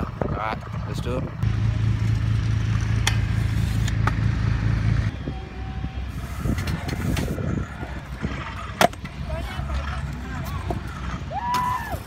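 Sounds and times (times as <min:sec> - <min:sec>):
low rumble: 0:00.0 - 0:12.0
scooter wheels rolling on concrete: 0:00.0 - 0:12.0.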